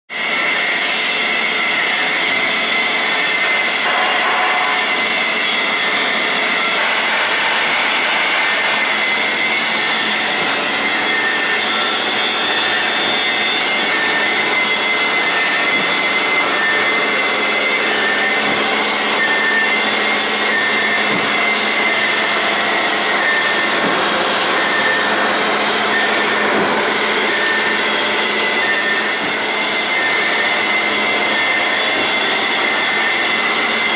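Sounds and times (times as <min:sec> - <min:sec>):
machine whirring and hissing: 0:00.1 - 0:33.9.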